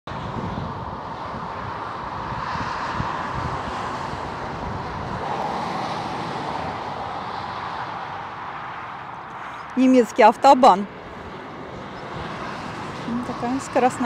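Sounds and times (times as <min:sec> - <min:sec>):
motorway traffic passing: 0:00.1 - 0:14.0
wind buffeting microphone: 0:00.1 - 0:14.0.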